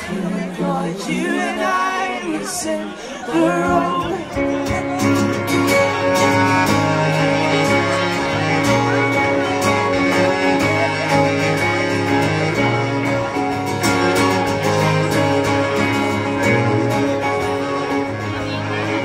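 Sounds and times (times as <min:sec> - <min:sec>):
acoustic folk band playing: 0:00.0 - 0:19.0
strummed guitar: 0:00.0 - 0:19.0.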